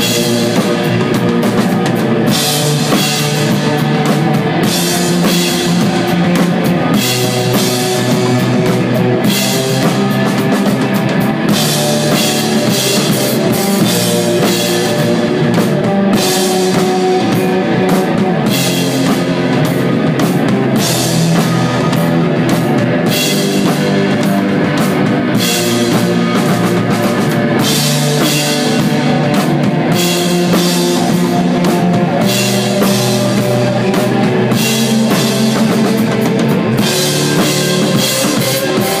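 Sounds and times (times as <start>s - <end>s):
drum kit with ringing cymbals: 0.0s - 39.0s
electric guitars: 0.0s - 39.0s
rock band playing live: 0.0s - 39.0s.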